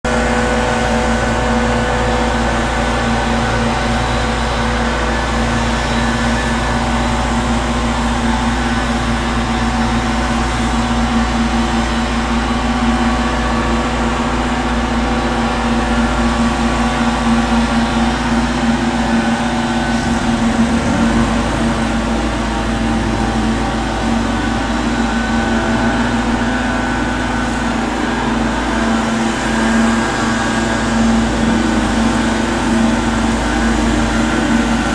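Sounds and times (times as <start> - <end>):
power machinery engine drone: 0.0 - 34.9.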